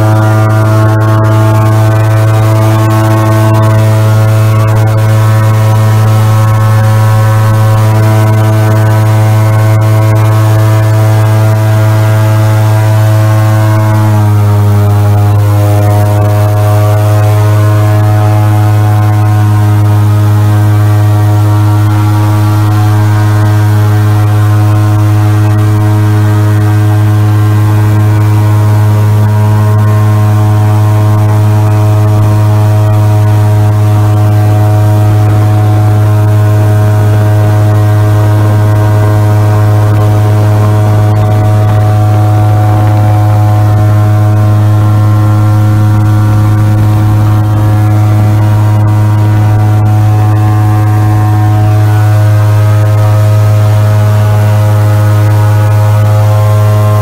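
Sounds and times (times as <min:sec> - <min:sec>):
airboat engine and propeller drone: 0:00.0 - 0:57.0.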